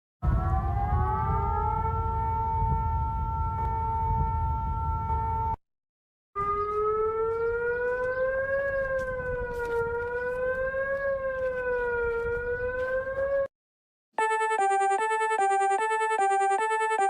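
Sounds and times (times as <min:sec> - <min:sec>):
civil defense siren rising and falling: 0:00.2 - 0:05.6, 0:06.4 - 0:13.5, 0:14.2 - 0:17.0.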